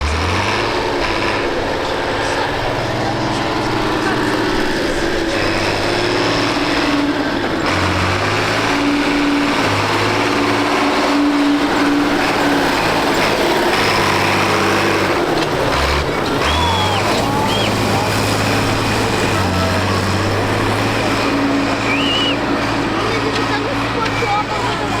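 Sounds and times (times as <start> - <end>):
tractor engines running: 0.0 - 25.0.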